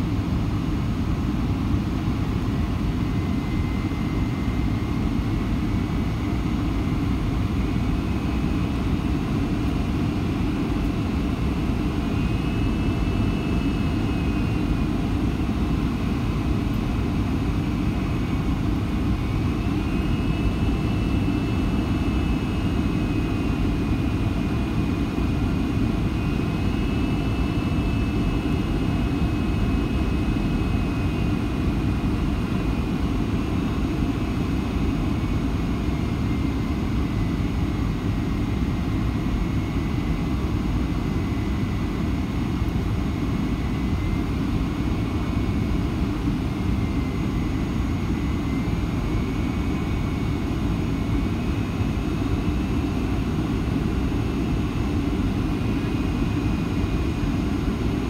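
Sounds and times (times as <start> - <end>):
airflow and jet engines rushing: 0.0 - 58.0
faint high whine: 0.0 - 58.0.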